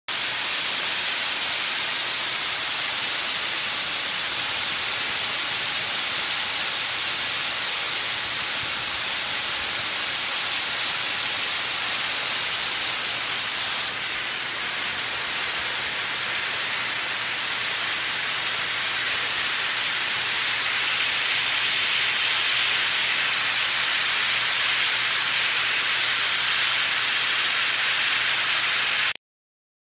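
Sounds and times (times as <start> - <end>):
fire hose spraying water: 0.1 - 29.2.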